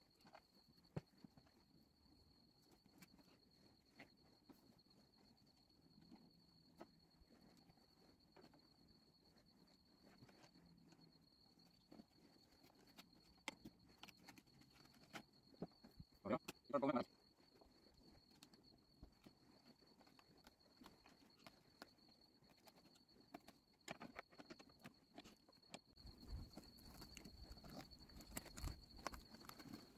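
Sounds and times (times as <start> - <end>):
high-pitched insect trill: 0.0 - 29.9.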